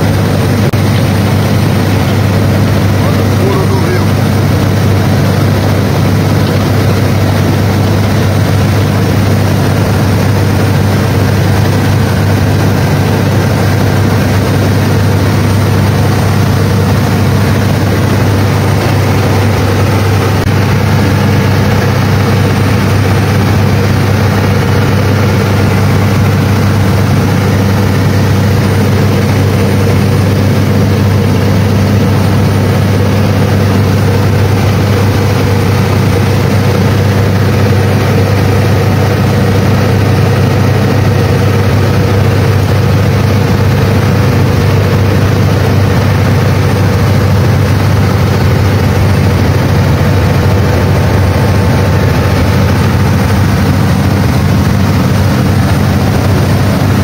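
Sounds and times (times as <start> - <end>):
speedboat engine running: 0.0 - 57.0
water rushing in wake: 0.0 - 57.0.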